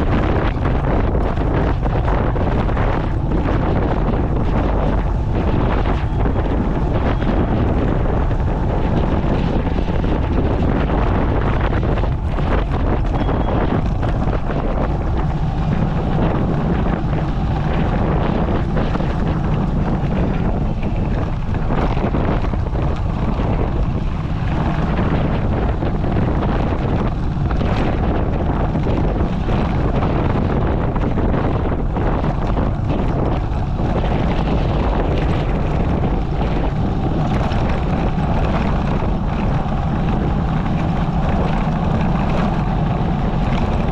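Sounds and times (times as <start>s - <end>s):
motorcycle engine running: 0.0s - 43.9s
wind rushing on microphone: 0.0s - 43.9s.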